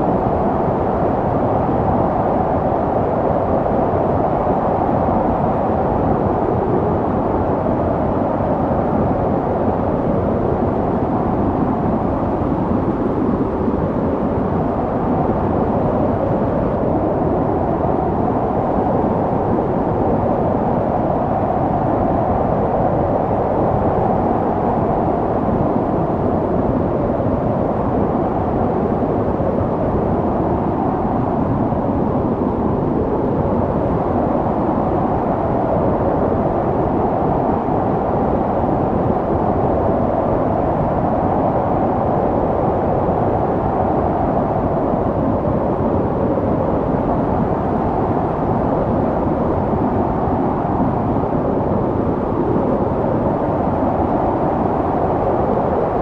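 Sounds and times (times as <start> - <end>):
snowstorm wind blowing: 0.0 - 56.0.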